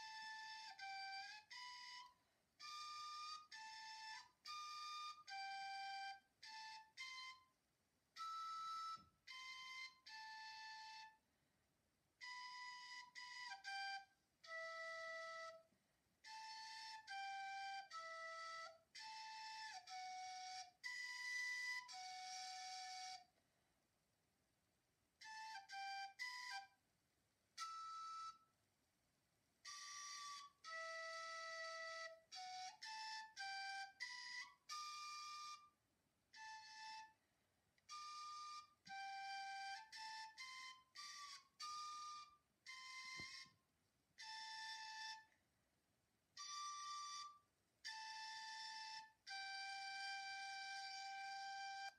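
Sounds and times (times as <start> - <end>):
slow flute-like solo melody: 0.0 - 11.5, 12.2 - 23.4, 25.2 - 26.8, 27.5 - 28.5, 29.6 - 45.4, 46.3 - 51.9.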